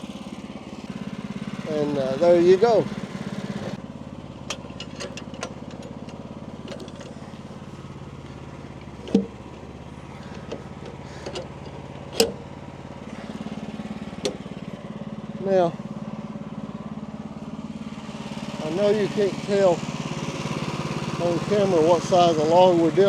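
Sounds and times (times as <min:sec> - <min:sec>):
sawmill engine idling: 0:00.0 - 0:23.0.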